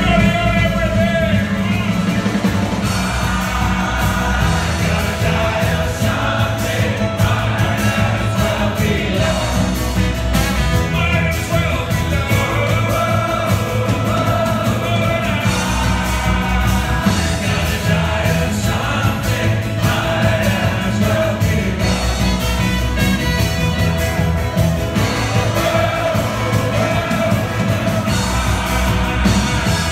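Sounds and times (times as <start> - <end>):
drums keeping a steady beat: 0.0 - 29.9
live band playing: 0.0 - 29.9
several voices singing: 0.0 - 29.9.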